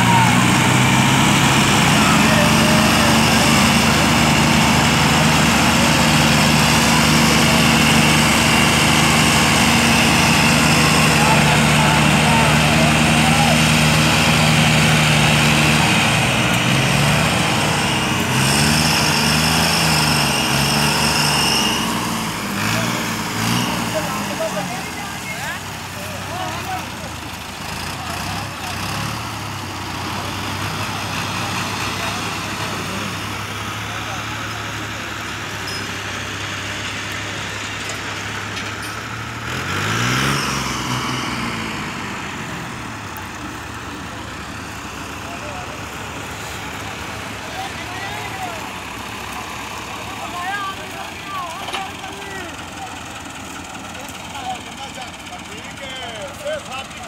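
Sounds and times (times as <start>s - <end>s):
tractor engines under load: 0.0s - 57.0s.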